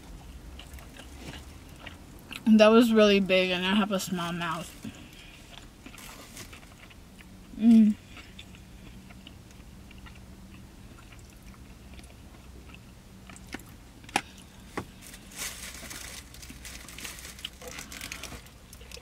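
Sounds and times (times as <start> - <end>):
person chewing food: 0.0 - 2.5, 4.7 - 19.0
steady low hum: 0.0 - 19.0.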